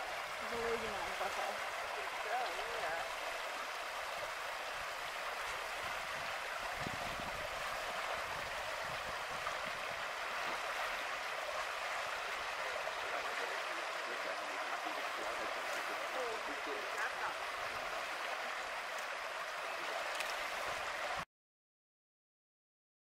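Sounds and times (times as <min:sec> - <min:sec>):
water rushing through spillway: 0:00.0 - 0:21.2.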